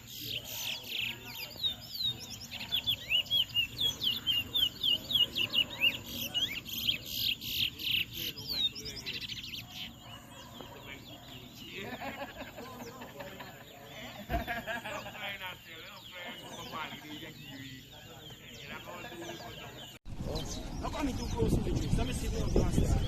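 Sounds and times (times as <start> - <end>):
finch singing chirped notes: 0.0 - 23.0.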